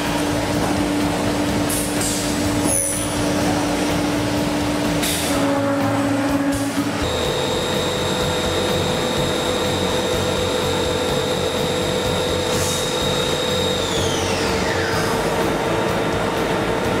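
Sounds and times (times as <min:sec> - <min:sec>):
machining centre whine: 0:00.0 - 0:17.0.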